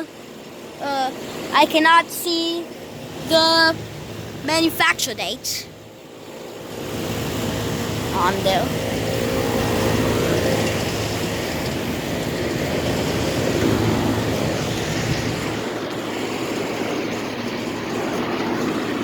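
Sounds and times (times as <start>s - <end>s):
condenser fan whoosh: 0.0s - 19.0s
low hum: 2.7s - 19.0s.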